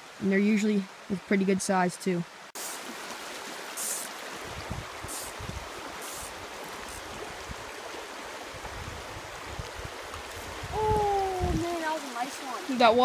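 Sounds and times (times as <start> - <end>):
creek water over rocks: 0.0 - 13.0.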